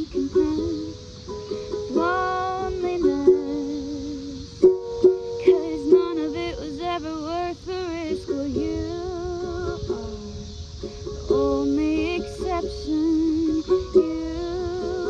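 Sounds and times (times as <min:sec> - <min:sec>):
woman singing: 0:00.0 - 0:10.3, 0:11.2 - 0:15.0
cicada buzz: 0:00.0 - 0:15.0
ukulele strumming: 0:00.0 - 0:15.0.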